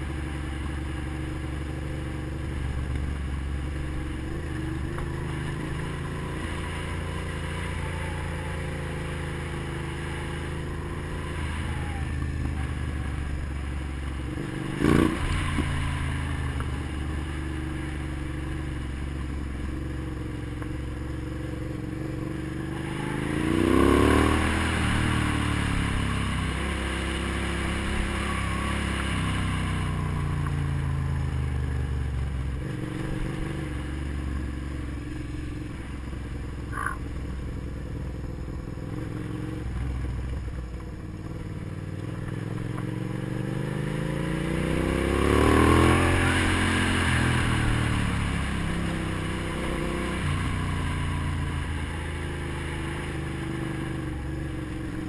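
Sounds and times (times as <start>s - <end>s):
motorcycle engine revving: 0.0s - 55.0s
motorcycle engine running: 0.0s - 55.0s.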